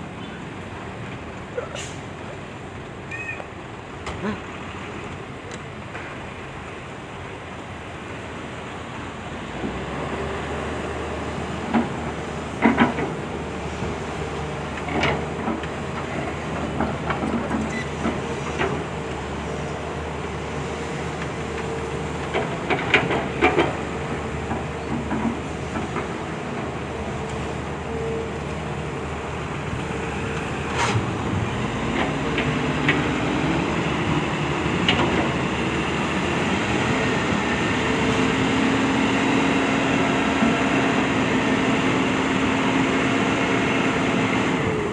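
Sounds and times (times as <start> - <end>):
excavator diesel engine running: 6.9 - 44.9.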